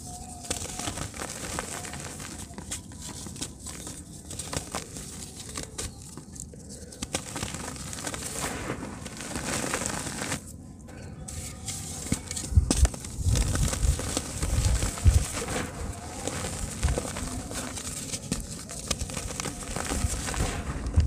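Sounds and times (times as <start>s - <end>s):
dirt clods crackling: 0.0s - 10.6s, 11.3s - 21.0s.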